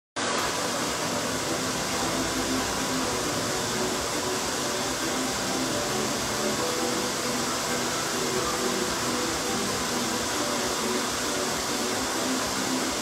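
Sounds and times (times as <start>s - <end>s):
blower rushing air: 0.2s - 13.0s.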